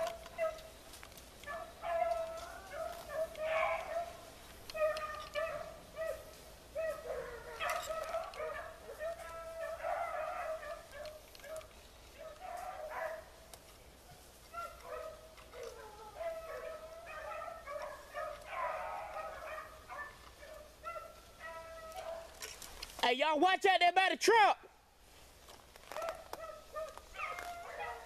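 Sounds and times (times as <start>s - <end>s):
hounds baying: 0.0s - 22.6s, 25.8s - 28.0s.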